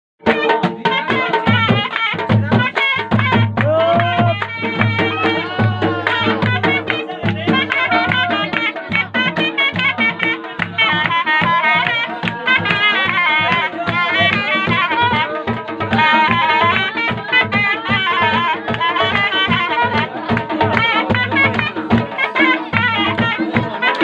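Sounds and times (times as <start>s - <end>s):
drum beating a dance rhythm: 0.2s - 24.0s.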